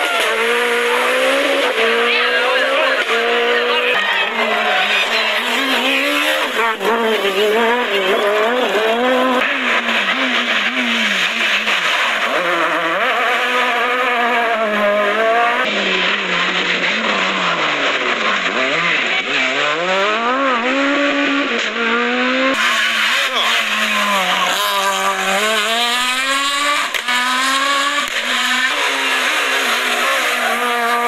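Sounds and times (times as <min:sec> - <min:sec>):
rally car engines revving: 0:00.0 - 0:31.0.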